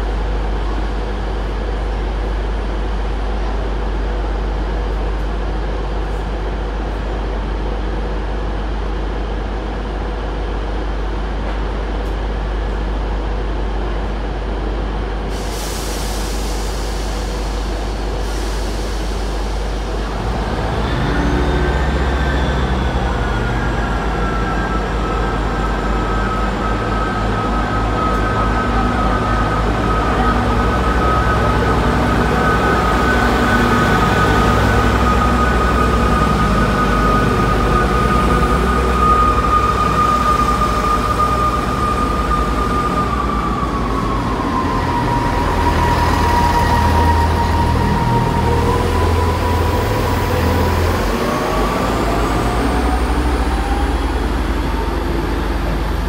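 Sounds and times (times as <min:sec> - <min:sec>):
diesel train engine rumbling: 0:00.0 - 0:56.0.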